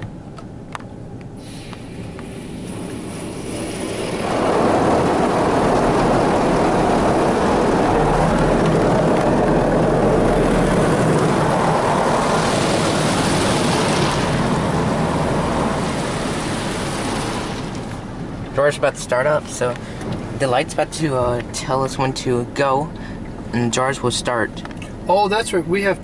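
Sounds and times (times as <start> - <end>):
water spraying on car: 1.4 - 24.4.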